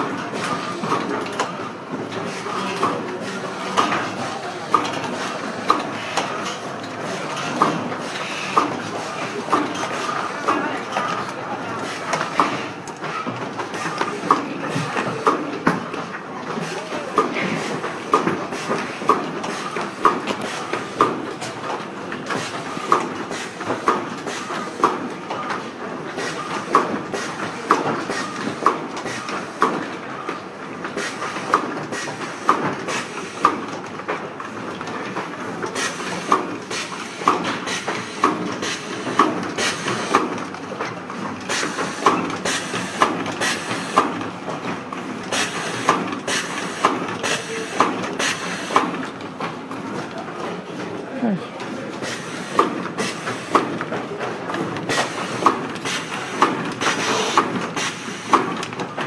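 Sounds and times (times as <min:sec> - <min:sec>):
machine clattering: 0:00.0 - 0:59.0.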